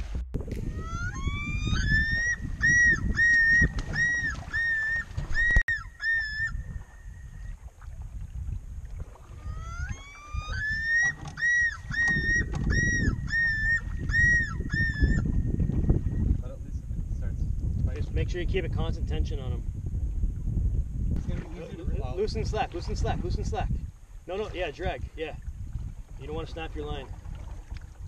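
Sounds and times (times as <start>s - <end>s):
wind and water rumble: 0.0s - 28.0s.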